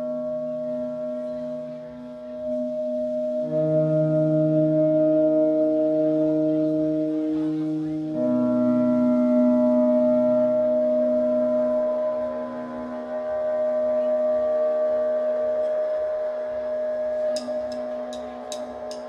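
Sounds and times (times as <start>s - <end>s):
droning electric guitar and bass chord: 0.0s - 19.0s.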